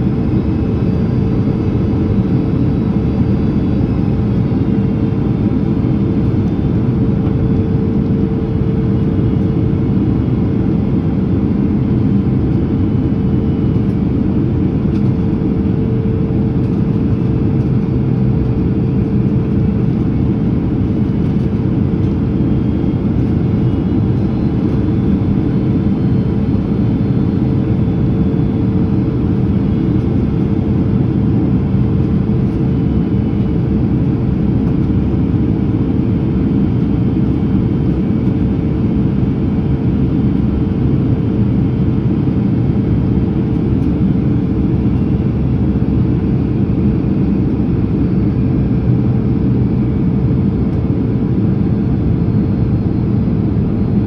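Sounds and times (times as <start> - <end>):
constant hum: 0.0 - 54.0
plane engine and airflow roar: 0.0 - 54.0.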